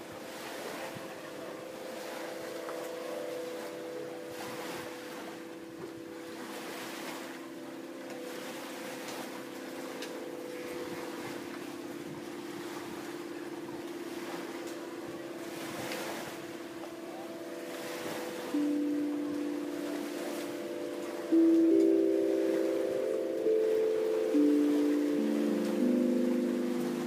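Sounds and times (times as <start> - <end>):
wind gusts: 0.0 - 27.0
wind harp drone tones: 0.0 - 27.0.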